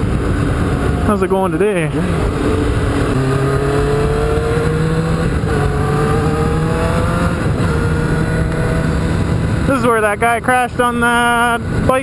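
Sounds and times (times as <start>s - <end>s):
motorcycle engine accelerating: 0.0s - 12.0s
wind rushing over microphone: 0.0s - 12.0s.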